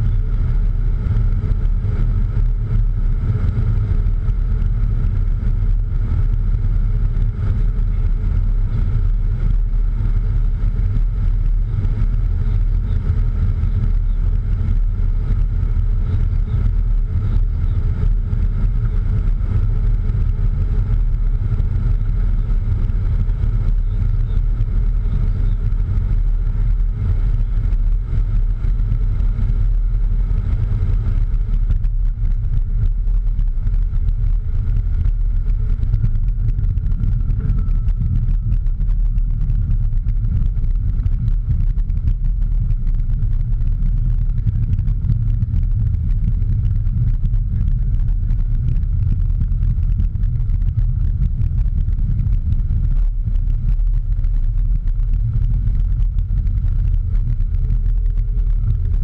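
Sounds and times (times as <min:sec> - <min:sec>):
faint high hum: 0:00.0 - 0:59.0
jet cockpit engine rumble: 0:00.0 - 0:59.0.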